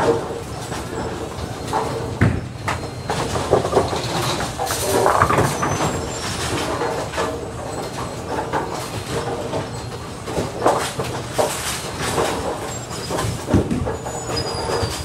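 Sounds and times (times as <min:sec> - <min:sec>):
pinspotter machinery rumble: 0:00.0 - 0:15.0.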